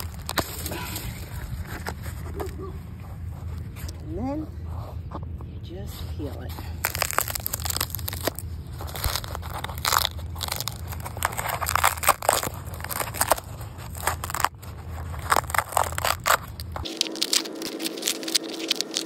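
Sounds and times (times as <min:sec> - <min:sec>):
dry gourd skin crackling: 0:00.0 - 0:04.2, 0:06.2 - 0:19.0.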